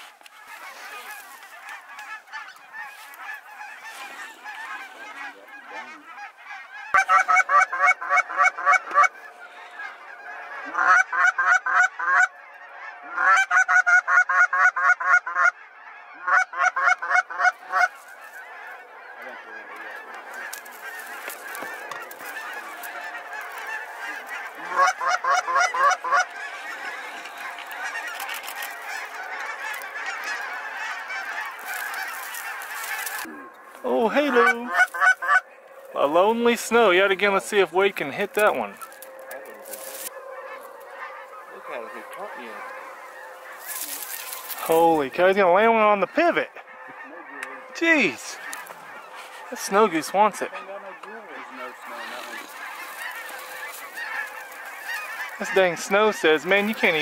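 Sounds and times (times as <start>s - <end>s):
geese honking overhead: 0.0s - 57.0s
rapid goose honks: 0.0s - 57.0s.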